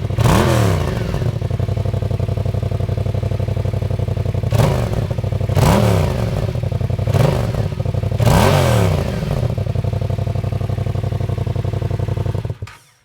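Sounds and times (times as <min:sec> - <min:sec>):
motorcycle engine idling: 0:00.0 - 0:12.7
motorcycle throttle revs: 0:00.0 - 0:12.8.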